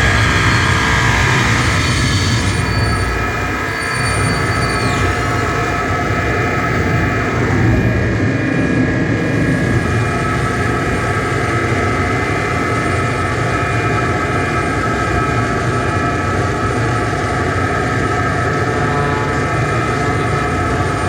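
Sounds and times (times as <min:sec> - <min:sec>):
electronic noise drone: 0:00.0 - 0:21.0.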